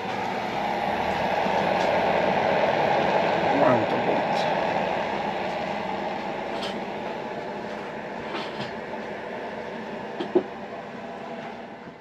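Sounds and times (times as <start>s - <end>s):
space heater fan running: 0.0s - 12.0s.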